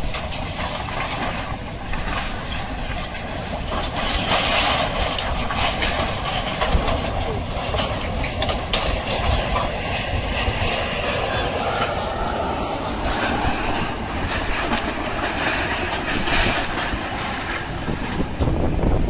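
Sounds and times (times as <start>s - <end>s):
floodwater roaring: 0.0s - 19.0s.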